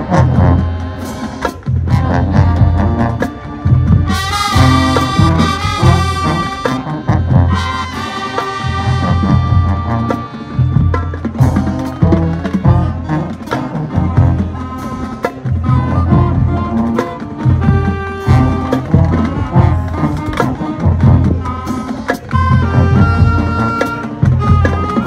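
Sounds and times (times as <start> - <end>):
brass horns: 0.0 - 25.0
drumline: 0.0 - 25.0.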